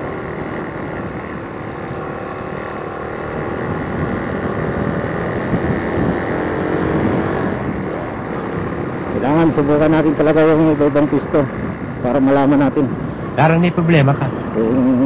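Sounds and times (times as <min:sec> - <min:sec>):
motorcycle engine running: 0:00.0 - 0:15.0
road and wind rumble: 0:00.0 - 0:15.0.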